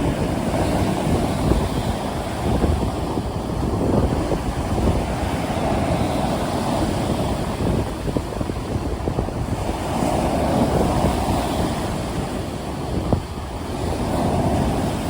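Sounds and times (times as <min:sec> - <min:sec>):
sea waves breaking on shore: 0:00.0 - 0:15.0
wind: 0:00.0 - 0:15.0.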